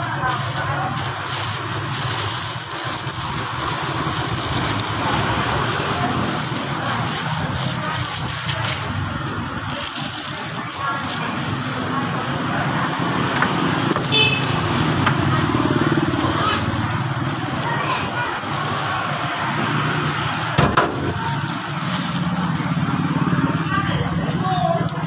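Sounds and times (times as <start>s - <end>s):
background voices: 0.0s - 25.0s
vehicle engines in traffic: 0.0s - 25.0s.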